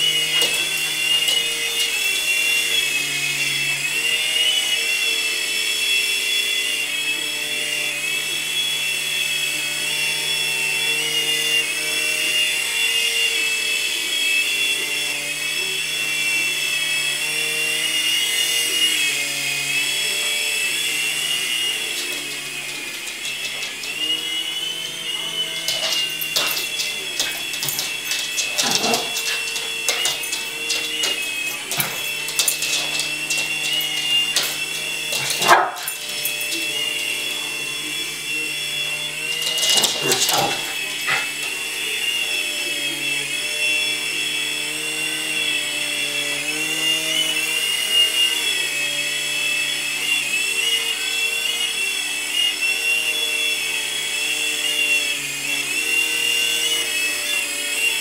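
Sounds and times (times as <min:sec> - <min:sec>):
toy helicopter rotor whining: 0:00.0 - 0:58.0.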